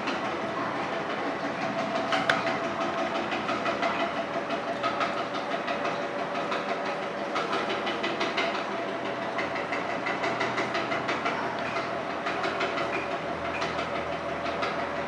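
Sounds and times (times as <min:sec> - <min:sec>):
potter's wheel rattling rumble: 0:00.0 - 0:15.0.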